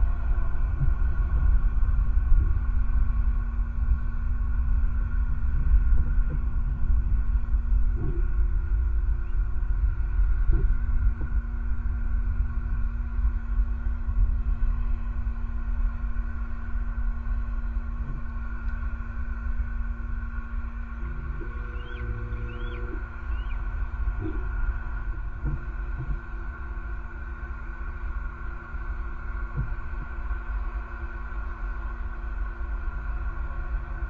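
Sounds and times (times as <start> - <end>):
electrical hum: 0.0 - 34.0
low outdoor rumble: 0.0 - 34.0.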